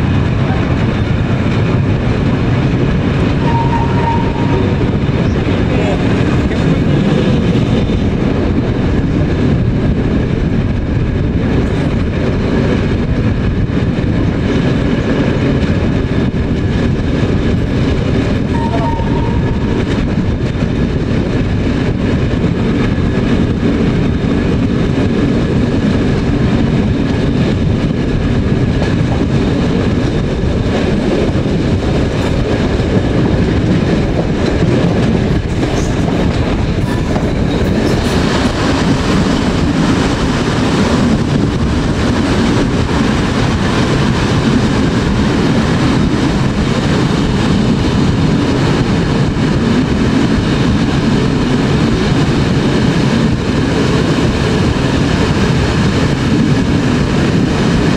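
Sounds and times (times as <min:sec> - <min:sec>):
electric locomotive running: 0:00.0 - 0:57.9
wheels clacking over rail joints: 0:11.4 - 0:57.9.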